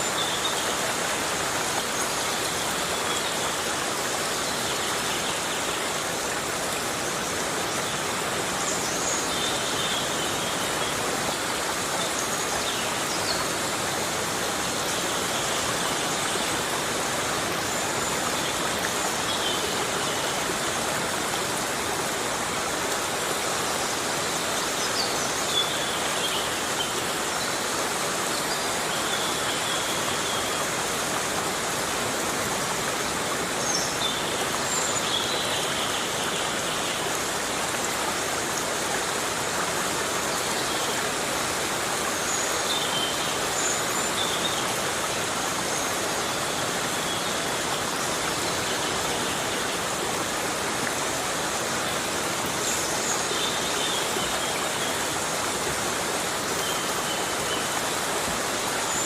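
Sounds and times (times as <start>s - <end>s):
heavy rain in a forest: 0.0s - 59.0s.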